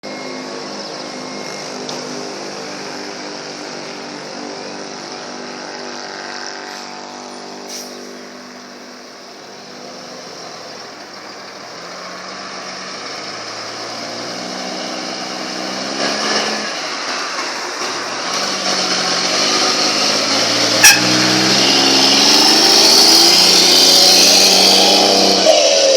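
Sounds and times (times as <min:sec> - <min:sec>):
diesel truck engine rumbling: 0:00.0 - 0:25.9.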